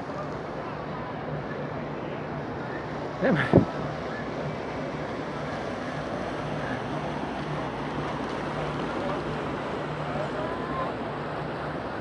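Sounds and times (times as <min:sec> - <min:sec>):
motorboat engine humming: 0:00.0 - 0:12.0
water rushing: 0:00.0 - 0:12.0
wind: 0:00.0 - 0:12.0.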